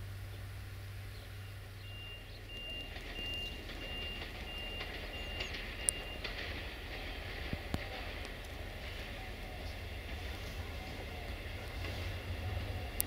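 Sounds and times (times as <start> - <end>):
level crossing signal beeping: 1.1 - 13.0.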